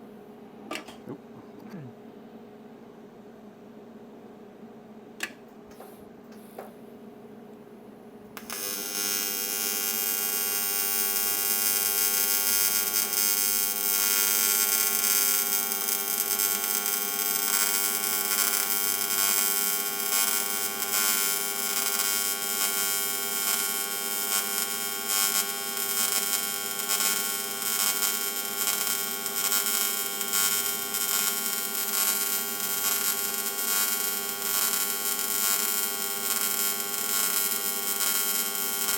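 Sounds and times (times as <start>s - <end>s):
welding arc buzzing hiss: 5.2s - 6.9s, 8.3s - 38.9s.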